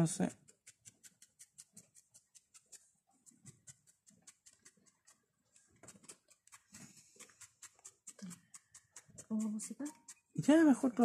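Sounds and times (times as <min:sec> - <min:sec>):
felting needle pricking wool: 0:00.0 - 0:11.0.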